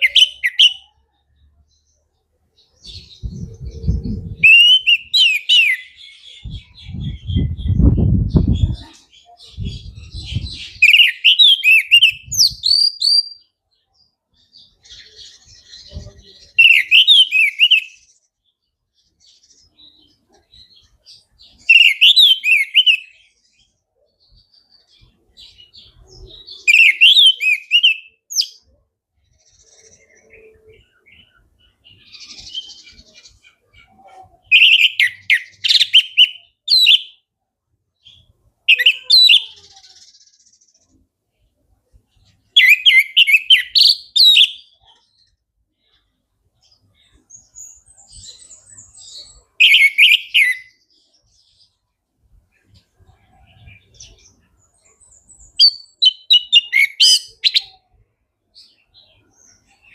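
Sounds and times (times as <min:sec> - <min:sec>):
soft bird twittering: 0:00.0 - 0:37.2, 0:38.0 - 0:51.9, 0:52.5 - 0:58.0.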